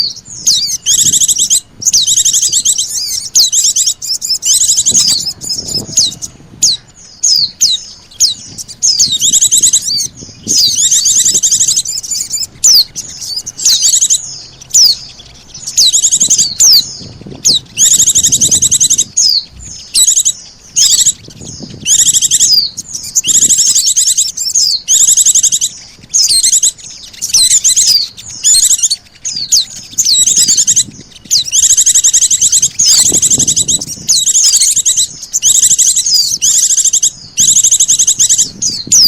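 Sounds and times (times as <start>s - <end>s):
buzzy bird trills and whistles: 0.0s - 39.0s
recorded bird calls: 0.0s - 39.0s.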